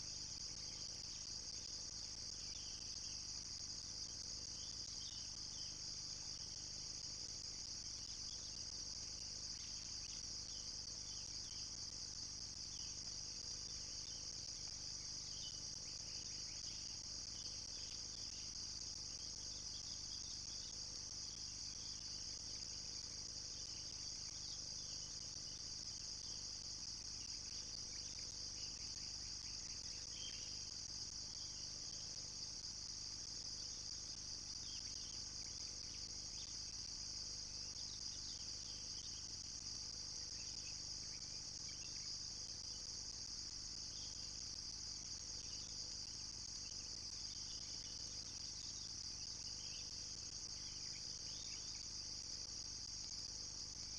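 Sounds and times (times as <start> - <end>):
faint chirps: 0.0 - 32.3, 32.9 - 53.9
high insect chorus: 0.0 - 53.9.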